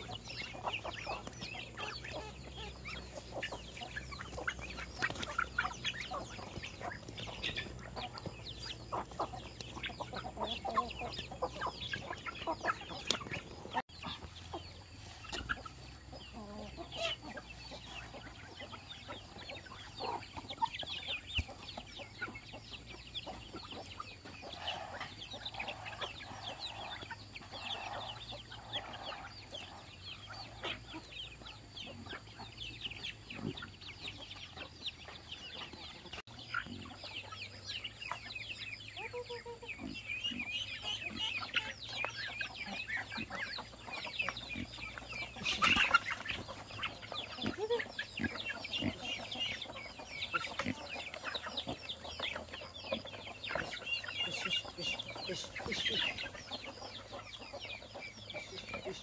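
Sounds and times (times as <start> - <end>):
chickens clucking: 0.0 - 59.0
chicks cheeping: 0.0 - 59.0.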